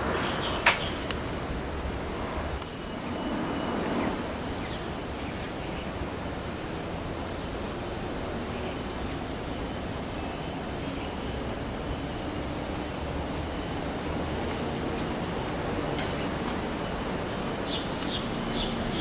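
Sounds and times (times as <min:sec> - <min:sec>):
vehicles rumbling: 0:00.0 - 0:19.0.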